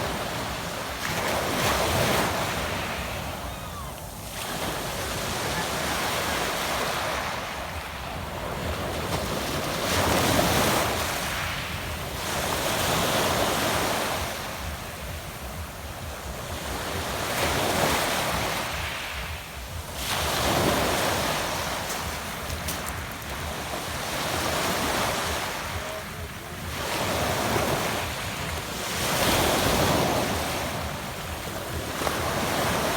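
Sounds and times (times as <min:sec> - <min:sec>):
waves on a pebble beach: 0:00.0 - 0:32.9.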